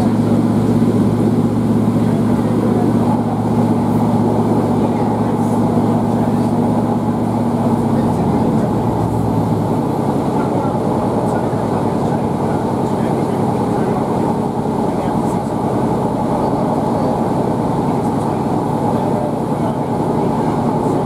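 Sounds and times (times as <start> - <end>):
diesel engine hum: 0.0 - 21.0
train rumble: 0.0 - 21.0.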